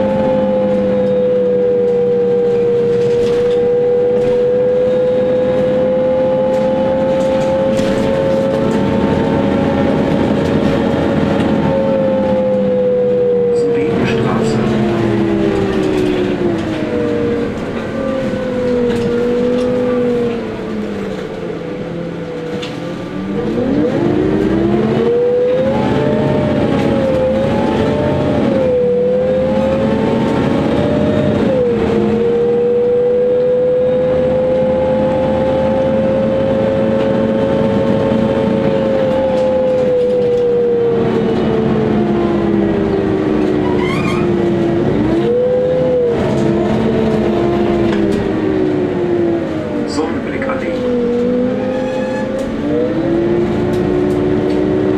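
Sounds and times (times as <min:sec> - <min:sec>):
bus engine from inside cabin: 0:00.0 - 0:54.9.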